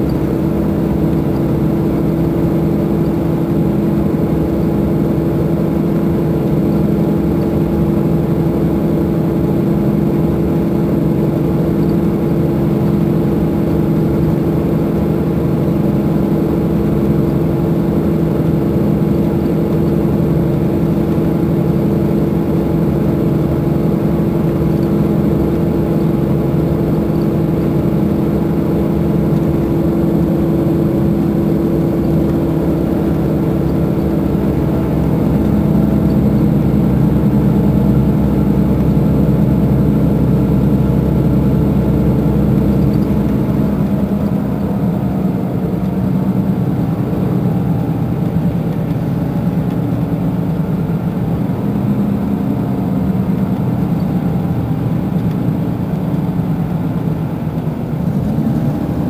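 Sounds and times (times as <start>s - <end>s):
diesel coach engine idling: 0.0s - 59.0s.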